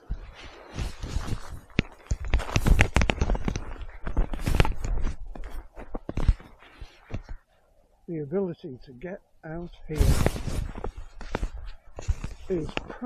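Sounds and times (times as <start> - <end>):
microphone rubbing against coat: 0.0 - 7.6, 9.5 - 13.0.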